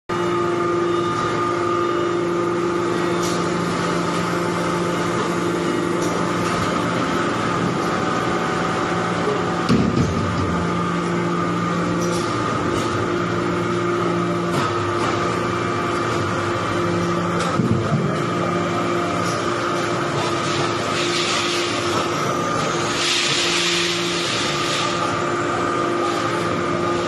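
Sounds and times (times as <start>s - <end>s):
hydraulic press humming: 0.1s - 27.0s.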